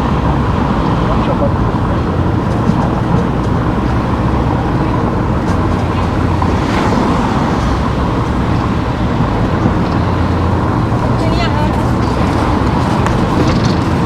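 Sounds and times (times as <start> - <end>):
car road noise: 0.0 - 14.0.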